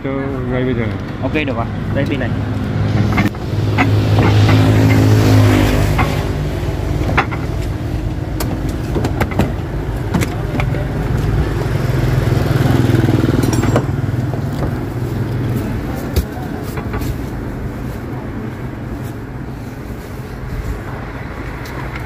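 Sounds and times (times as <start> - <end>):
engine idling: 1.4 - 22.0.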